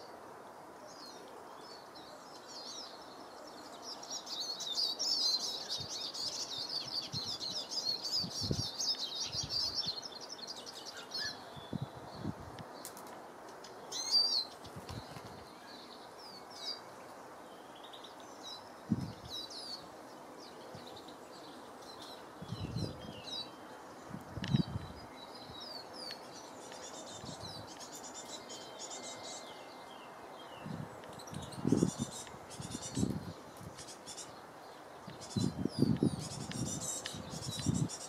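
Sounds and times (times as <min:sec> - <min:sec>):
low background noise: 0:00.0 - 0:38.0
songbirds chirping: 0:00.0 - 0:38.0.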